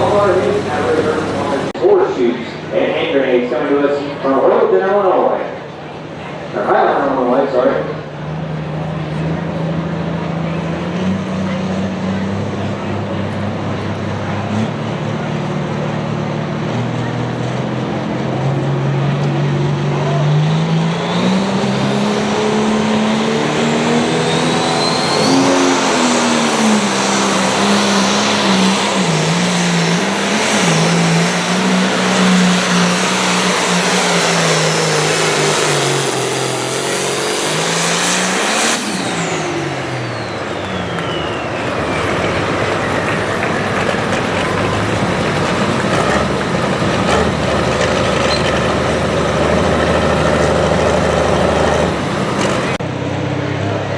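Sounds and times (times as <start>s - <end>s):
diesel tractor engine at full power: 0.0s - 53.9s.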